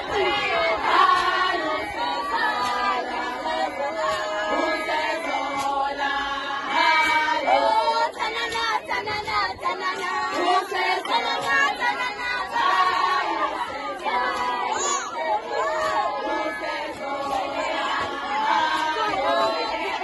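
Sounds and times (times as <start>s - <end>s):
group of women singing: 0.0s - 20.0s.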